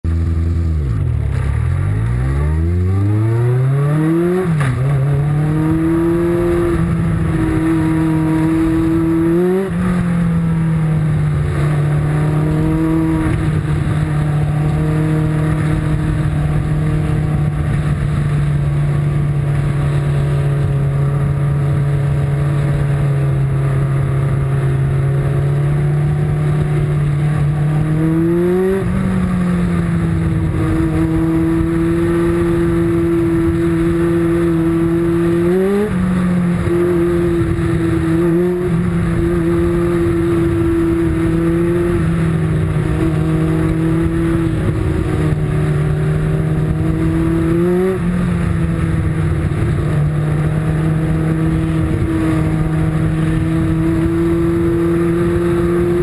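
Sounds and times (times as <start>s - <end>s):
race car engine revving: 0.1s - 56.0s.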